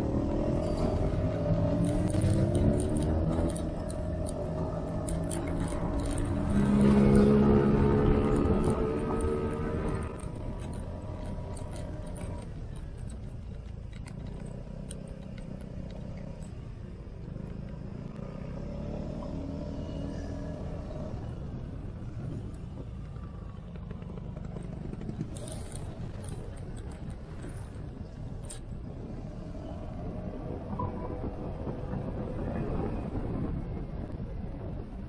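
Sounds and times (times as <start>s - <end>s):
scooter engine rumbling: 0.0s - 35.0s.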